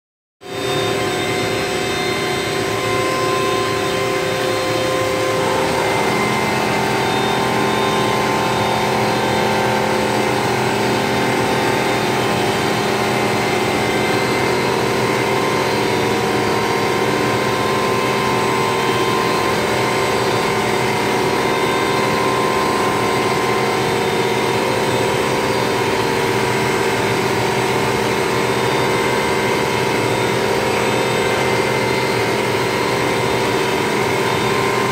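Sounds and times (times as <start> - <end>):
flatbed printer whirring: 0.5 - 34.9.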